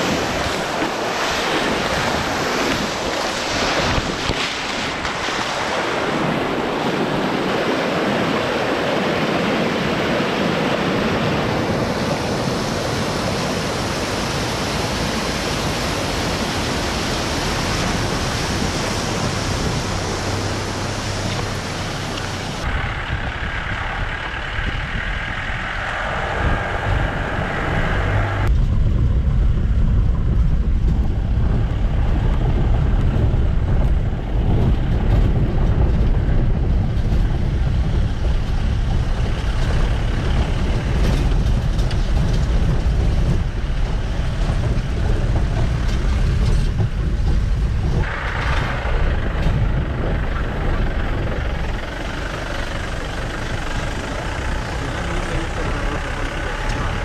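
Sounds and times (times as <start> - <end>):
vehicle deep rumble: 0.0 - 57.0.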